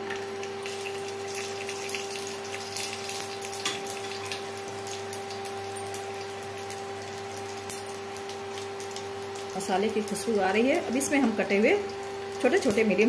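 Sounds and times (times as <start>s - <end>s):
spices sizzling in hot oil: 0.0s - 13.0s
steady hum: 0.0s - 13.0s.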